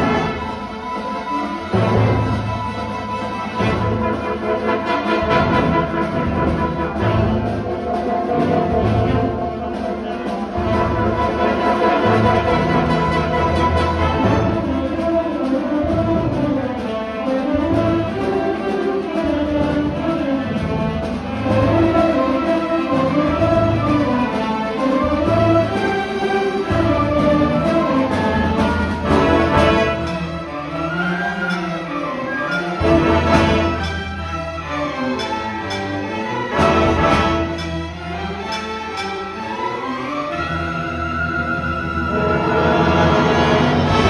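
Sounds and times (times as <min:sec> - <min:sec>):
brass instruments: 0:00.0 - 0:44.0
string orchestra playing: 0:00.0 - 0:44.0.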